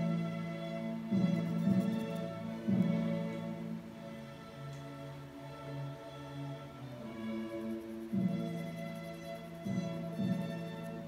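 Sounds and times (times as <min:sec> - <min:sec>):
slow soft background music: 0:00.0 - 0:11.0.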